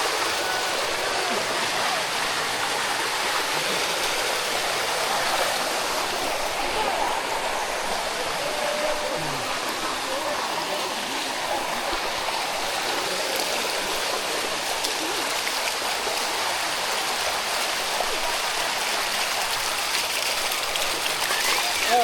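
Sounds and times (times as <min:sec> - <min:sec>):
waterfall rushing over rock: 0:00.0 - 0:22.0.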